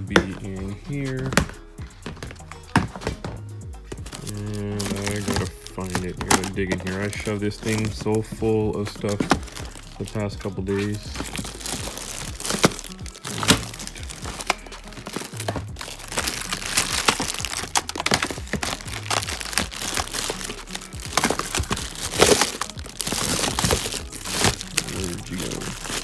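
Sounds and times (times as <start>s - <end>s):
background music with bass line: 0.0s - 26.0s
plastic bags crinkling: 0.0s - 26.0s.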